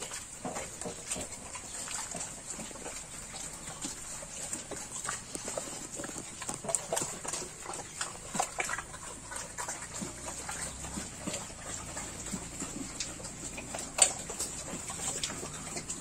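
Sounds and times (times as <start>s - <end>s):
trotters tapping on concrete: 0.0s - 16.0s.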